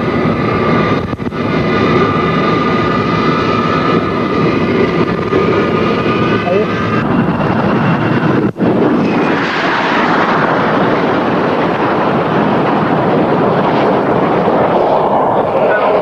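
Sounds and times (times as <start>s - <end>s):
jet aircraft roaring overhead: 0.0s - 16.0s.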